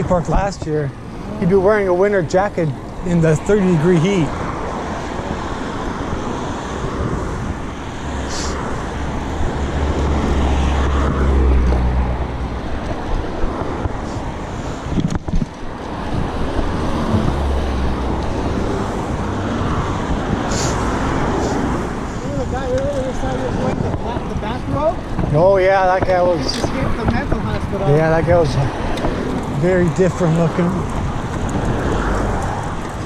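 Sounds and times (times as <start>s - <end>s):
road traffic passing: 0.0s - 33.0s
wind buffeting microphone: 0.0s - 33.0s.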